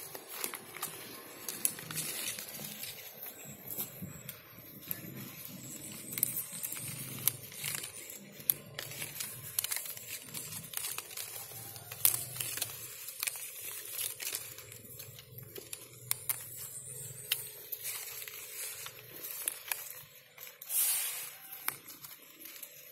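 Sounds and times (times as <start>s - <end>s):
leaves rustling and crinkling: 0.0s - 22.9s
sharp crackles and clicks: 0.0s - 22.9s.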